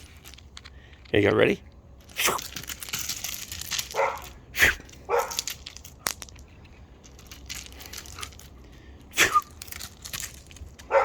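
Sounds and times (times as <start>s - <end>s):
crunching on rocks and gravel: 0.0s - 11.0s.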